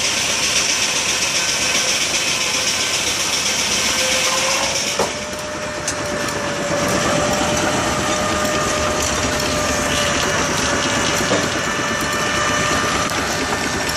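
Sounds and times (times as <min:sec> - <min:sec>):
constant machine whine: 0:00.0 - 0:13.9
sawmill mechanical din: 0:00.0 - 0:13.9.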